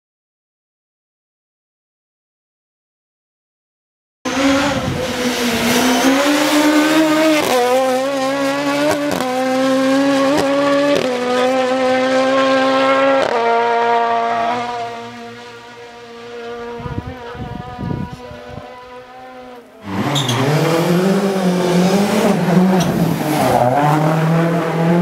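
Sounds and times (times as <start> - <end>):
race car engine at high revs: 4.3 - 25.0.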